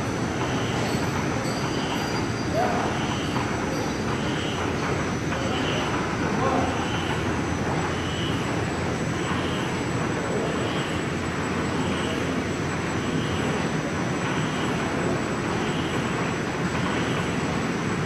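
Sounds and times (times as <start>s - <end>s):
cloth winding machine drone: 0.0s - 18.0s.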